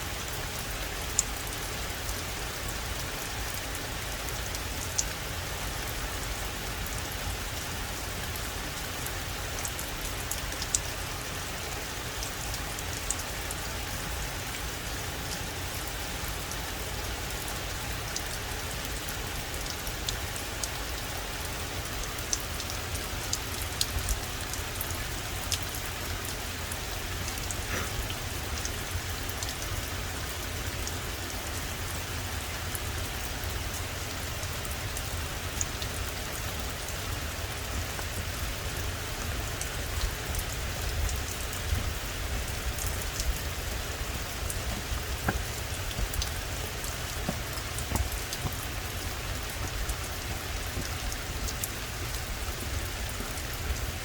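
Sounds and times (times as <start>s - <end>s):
steady rain on forest: 0.0s - 54.0s.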